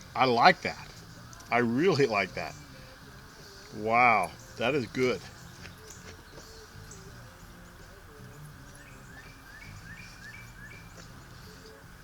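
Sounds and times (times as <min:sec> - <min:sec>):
bird chirping: 0:00.0 - 0:11.8
outdoor background murmur: 0:00.0 - 0:12.0.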